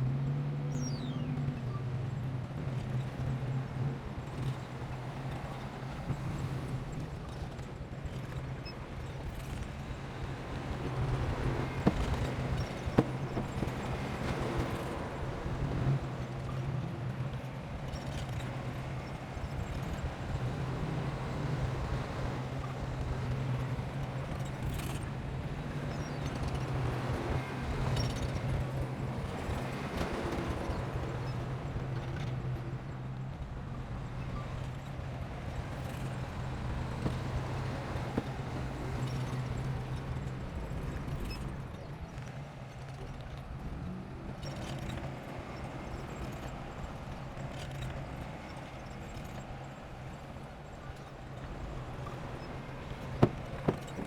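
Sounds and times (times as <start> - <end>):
diesel engine hum: 9.1 - 54.0.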